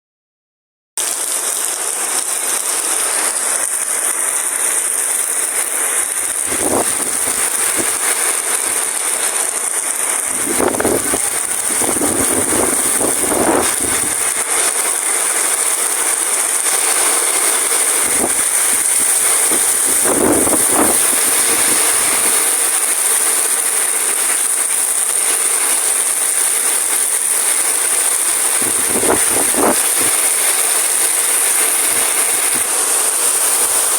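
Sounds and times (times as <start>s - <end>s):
heavy rain pouring: 1.0s - 33.9s
gusting wind: 3.3s - 33.9s.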